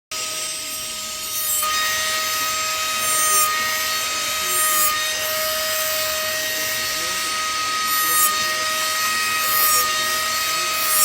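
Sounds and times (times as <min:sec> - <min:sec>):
power tool whining: 0:00.1 - 0:11.0
rasping cut in wood: 0:00.2 - 0:11.0.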